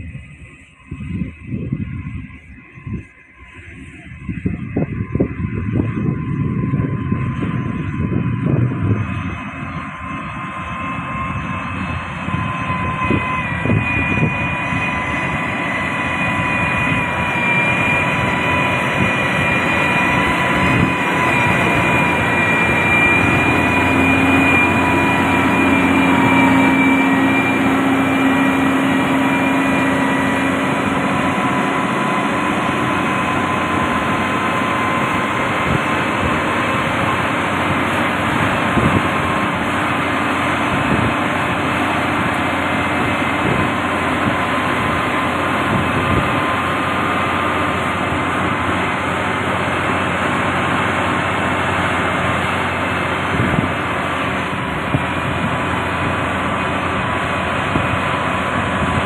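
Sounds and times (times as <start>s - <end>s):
deeper hum: 0.0s - 59.0s
diesel machinery engines running: 0.0s - 59.0s
high whine: 0.0s - 59.0s.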